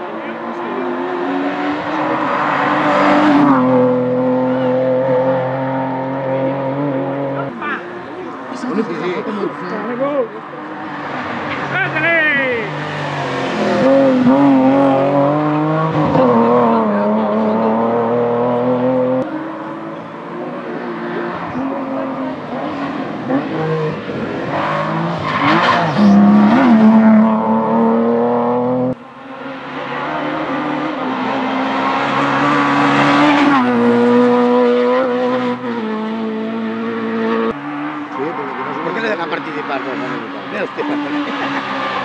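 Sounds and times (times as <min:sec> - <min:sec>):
racing car engine revving: 0:00.0 - 0:42.0.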